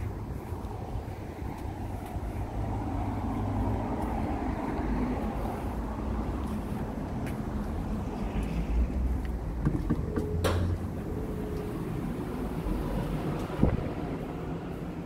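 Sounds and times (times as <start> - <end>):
wind and handling rumble: 0.0 - 15.0.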